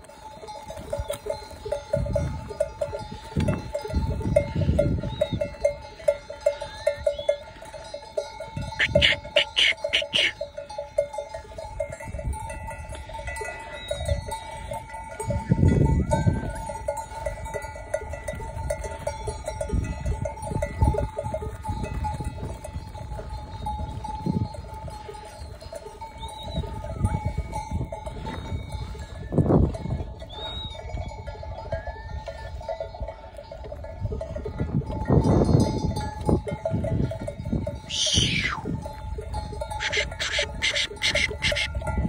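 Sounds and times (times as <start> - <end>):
sheep bells clanking: 0.0 - 42.0.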